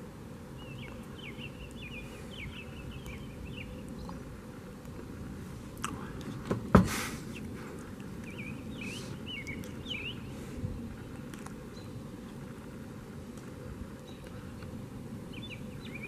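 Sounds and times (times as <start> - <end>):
birds chirping: 0.0 - 16.0
low background noise: 0.0 - 16.0.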